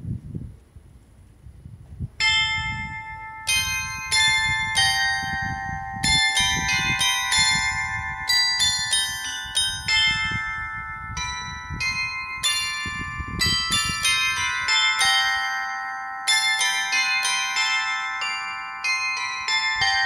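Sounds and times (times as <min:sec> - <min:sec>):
carillon bells playing slow tune: 0:02.2 - 0:20.0.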